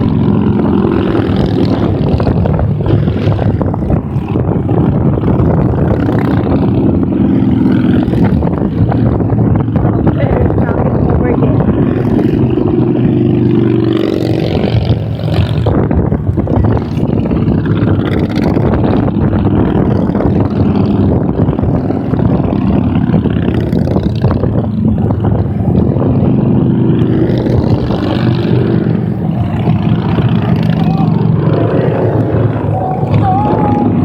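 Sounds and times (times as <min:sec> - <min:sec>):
motorcycles riding past: 0:00.0 - 0:34.0.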